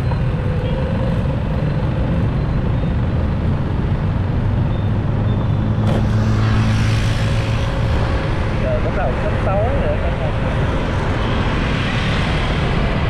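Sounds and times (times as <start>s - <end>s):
city street traffic rumble: 0.0s - 13.0s
deep engine hum nearby: 0.0s - 13.0s.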